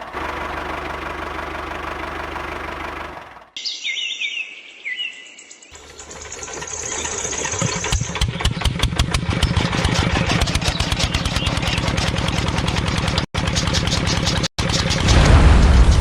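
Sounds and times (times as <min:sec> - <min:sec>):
small tractor engine running: 0:00.0 - 0:03.6, 0:05.7 - 0:16.0.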